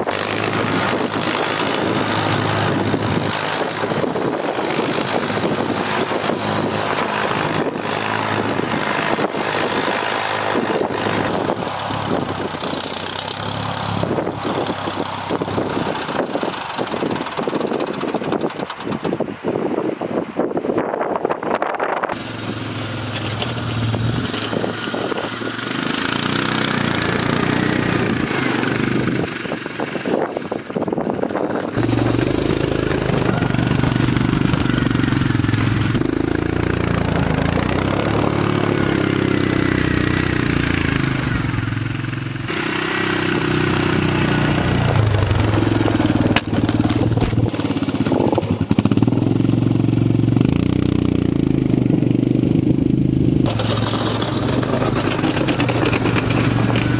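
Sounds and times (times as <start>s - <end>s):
atv engine revving: 0.0s - 19.2s, 22.1s - 56.9s.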